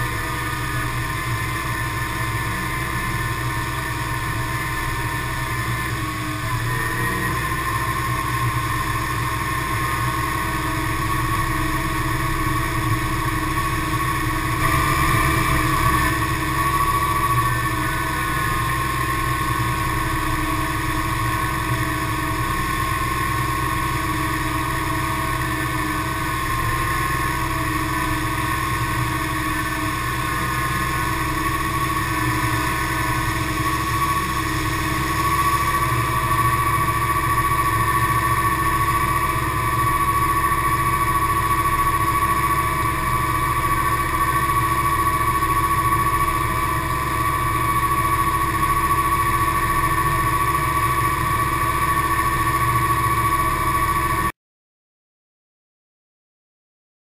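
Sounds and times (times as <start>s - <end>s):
farm machinery engines humming: 0.0s - 54.3s
high whining auger tones: 0.0s - 54.3s.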